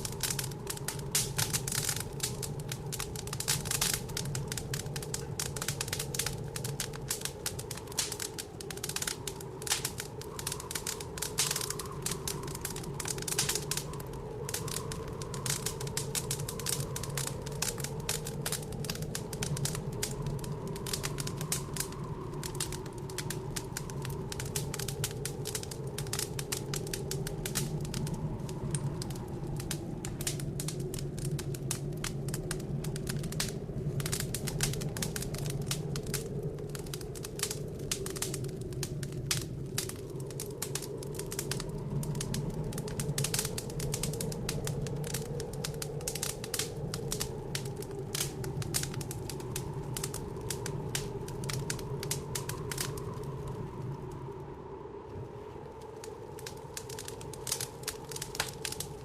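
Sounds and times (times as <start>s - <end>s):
howling blizzard wind: 0.0s - 59.0s
wood fire crackling and popping: 0.0s - 59.0s.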